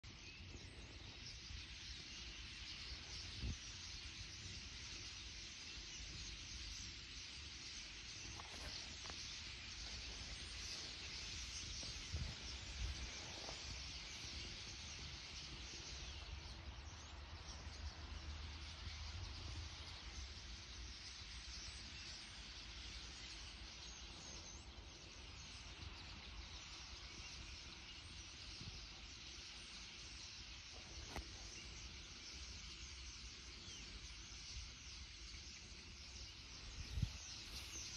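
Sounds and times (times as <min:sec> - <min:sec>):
flock of starlings chattering: 0:00.0 - 0:37.9.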